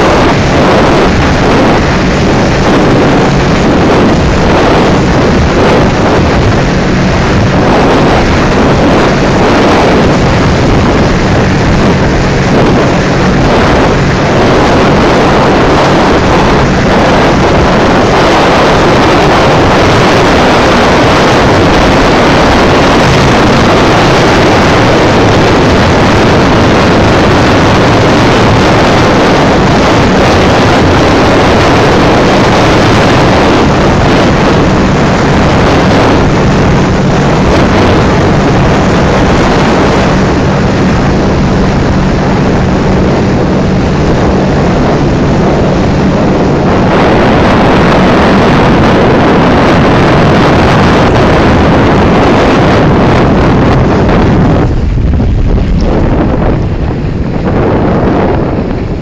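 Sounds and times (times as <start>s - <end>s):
powerboat engines droning: 0.0s - 59.0s
wind and water rushing: 0.0s - 59.0s.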